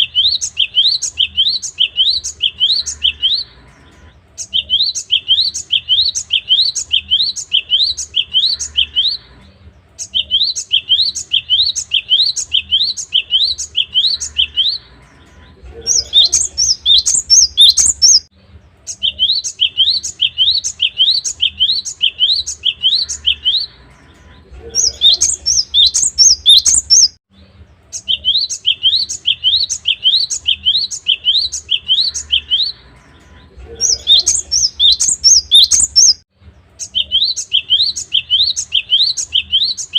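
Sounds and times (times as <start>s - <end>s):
bird singing whistled notes: 0.0s - 3.5s, 4.4s - 9.2s, 10.0s - 14.8s, 15.8s - 18.3s, 18.9s - 23.7s, 24.8s - 27.2s, 27.9s - 32.8s, 33.8s - 36.2s, 36.8s - 39.9s.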